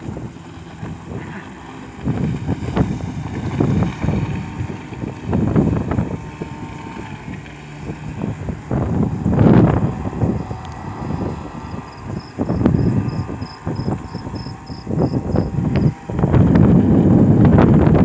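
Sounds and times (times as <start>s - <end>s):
outboard motor running: 0.0s - 18.0s
wind buffeting microphone: 0.0s - 18.0s.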